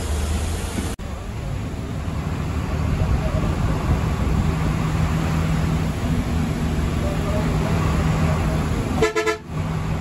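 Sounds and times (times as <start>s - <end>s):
bus diesel engine running: 0.0s - 10.0s
road noise: 0.0s - 10.0s.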